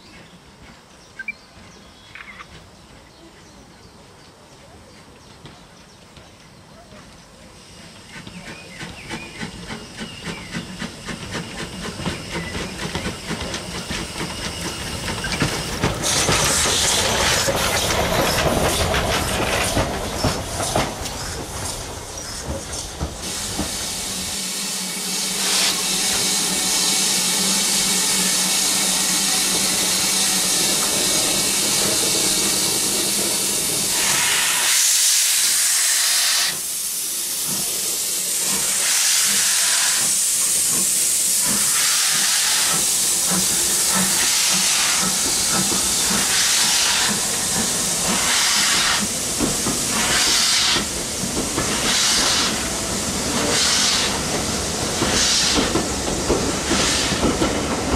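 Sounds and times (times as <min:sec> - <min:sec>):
steam hissing: 0:07.3 - 0:57.9.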